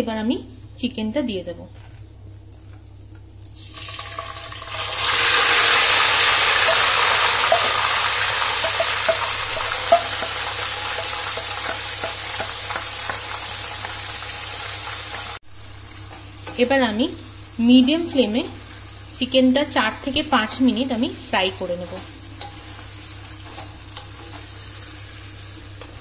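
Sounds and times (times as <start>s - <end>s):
chicken sizzling in oil: 3.5s - 26.0s.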